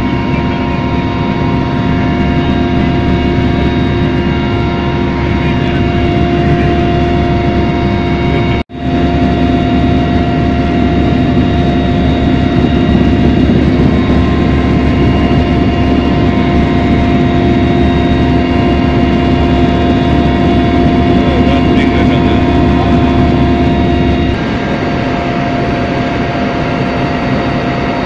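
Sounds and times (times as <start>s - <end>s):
helicopter engine and rotor: 0.0s - 28.0s.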